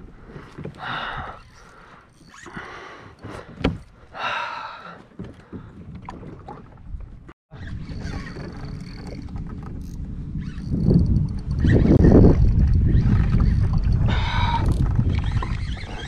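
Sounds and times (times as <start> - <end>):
water swishing around kayak: 0.0 - 16.0.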